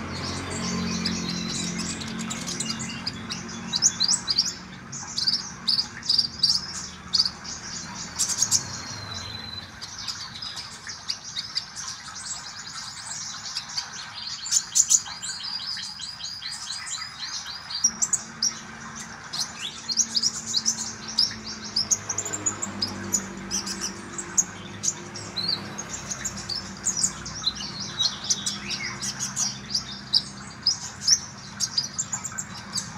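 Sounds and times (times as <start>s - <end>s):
bird chirping and trilling: 0.0s - 32.9s.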